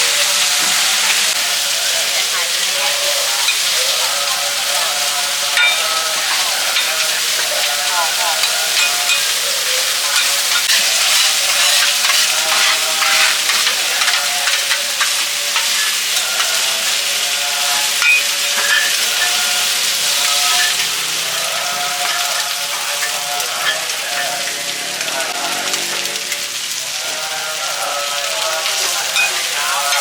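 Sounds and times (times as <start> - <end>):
omelette sizzling in oil: 0.0 - 30.0.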